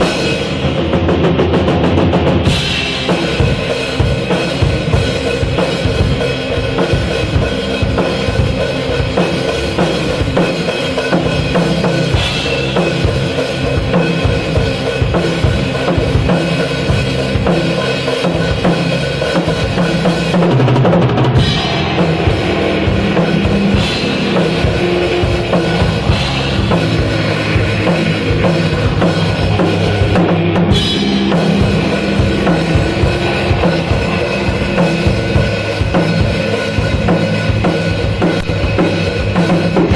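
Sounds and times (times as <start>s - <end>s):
drum kit beat: 0.0s - 39.9s
instrumental rock band music: 0.0s - 39.9s.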